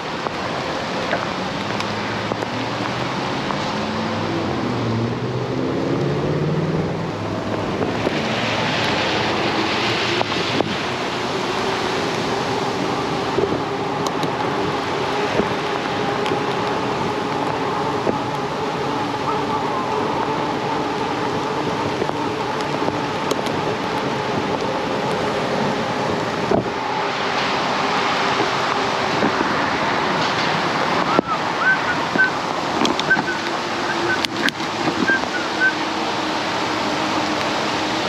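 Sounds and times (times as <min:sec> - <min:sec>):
wind rushing over microphone: 0:00.0 - 0:38.0.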